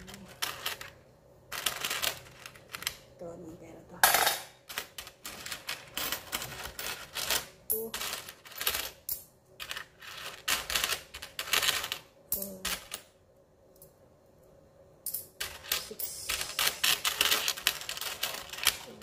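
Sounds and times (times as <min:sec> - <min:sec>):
coins clinking: 0:00.0 - 0:00.9, 0:01.5 - 0:03.0, 0:04.0 - 0:13.0, 0:15.1 - 0:19.0.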